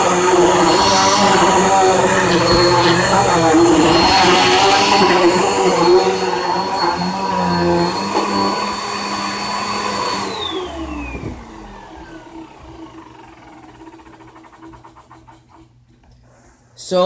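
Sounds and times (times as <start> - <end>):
vacuum motor winding down: 0.0 - 15.8
vacuum cleaner whine: 0.0 - 17.0.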